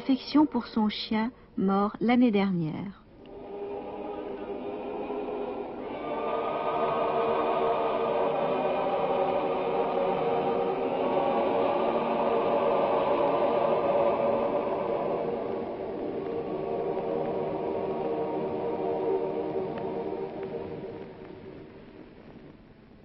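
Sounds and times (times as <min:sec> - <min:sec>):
choir singing long held notes: 0:03.2 - 0:22.3.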